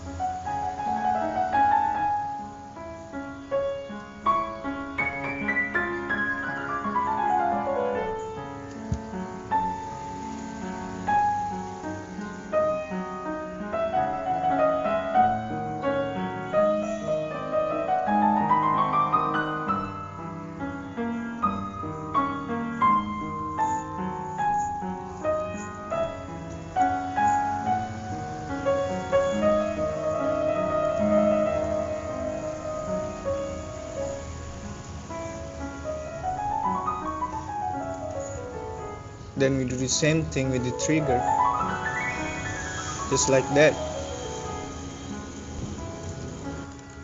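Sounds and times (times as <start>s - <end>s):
piano music with quick runs: 0.0s - 47.0s.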